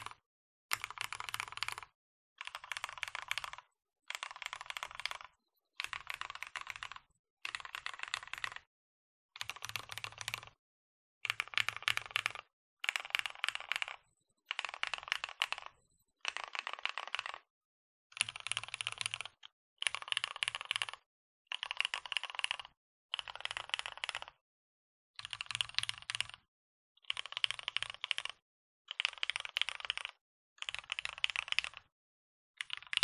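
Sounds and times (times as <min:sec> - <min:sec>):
mechanical keyboard typing: 0:00.0 - 0:08.7, 0:09.4 - 0:10.6, 0:11.2 - 0:17.5, 0:18.1 - 0:24.4, 0:25.2 - 0:31.9, 0:32.6 - 0:33.0.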